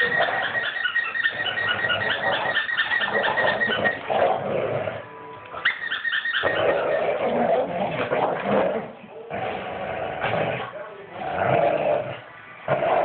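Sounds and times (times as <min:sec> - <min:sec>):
dogs growling: 0:00.0 - 0:13.0.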